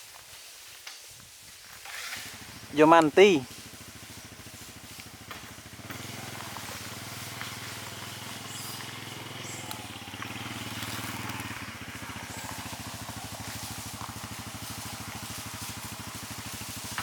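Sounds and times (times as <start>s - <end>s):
small engine running: 1.8s - 17.0s.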